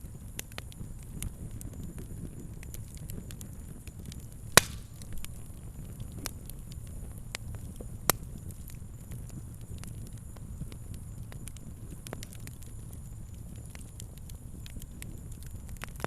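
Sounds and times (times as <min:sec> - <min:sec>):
fire crackling: 0:00.0 - 0:16.0
loud fire pops: 0:00.0 - 0:16.0.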